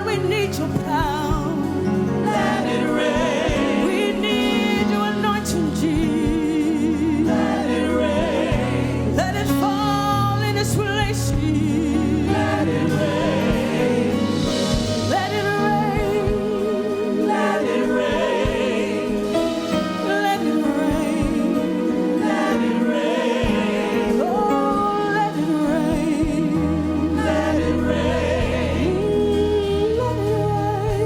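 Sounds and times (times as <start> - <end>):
band with bass line: 0.0 - 25.0, 25.6 - 31.0
voices singing with vibrato: 0.0 - 31.0.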